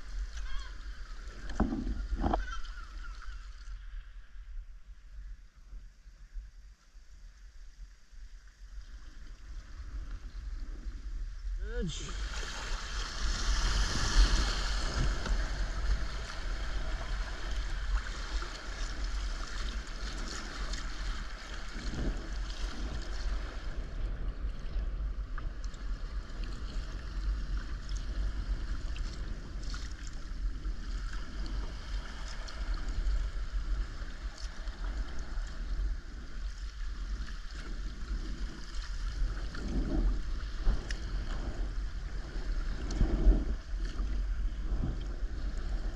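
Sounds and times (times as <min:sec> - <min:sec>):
wind buffeting microphone: 0:00.0 - 0:03.4, 0:09.6 - 0:45.9
sea waves sloshing around rocks: 0:08.0 - 0:45.9.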